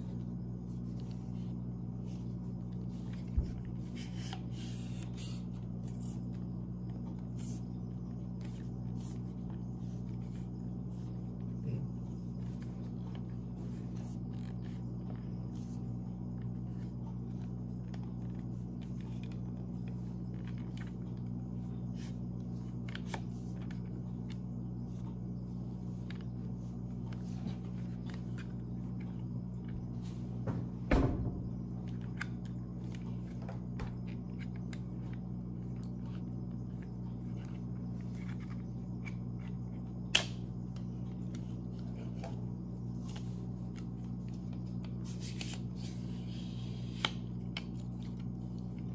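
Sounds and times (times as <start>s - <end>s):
low room hum: 0.0s - 48.9s.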